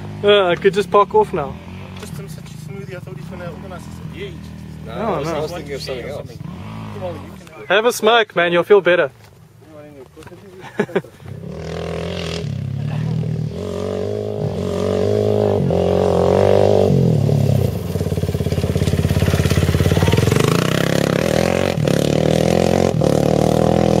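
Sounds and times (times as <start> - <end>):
off-road motorcycle engine: 0.0 - 24.0.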